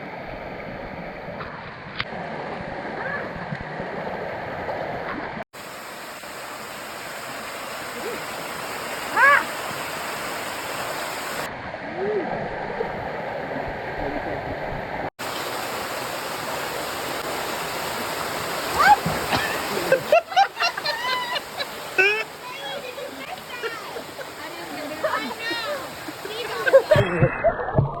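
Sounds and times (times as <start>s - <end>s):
stream water rushing: 0.0s - 27.1s.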